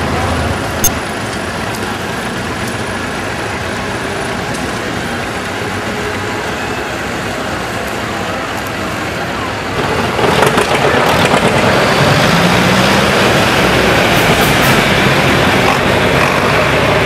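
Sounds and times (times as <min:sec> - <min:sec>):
tractors running: 0:00.0 - 0:17.0.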